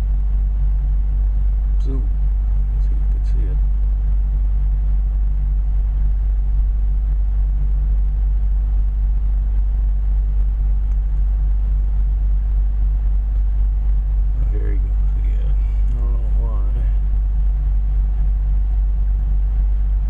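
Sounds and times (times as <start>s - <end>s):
vehicle engine idling: 0.0s - 19.8s.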